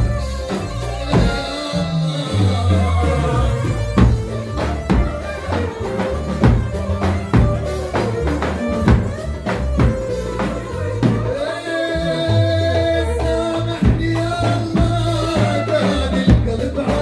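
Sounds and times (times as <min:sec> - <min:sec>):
large drum beating: 0:00.0 - 0:11.6, 0:12.3 - 0:17.0.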